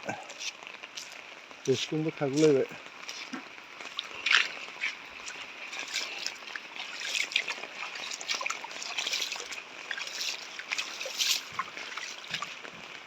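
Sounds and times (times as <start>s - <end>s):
rainwater trickling and dripping: 0.0s - 13.0s.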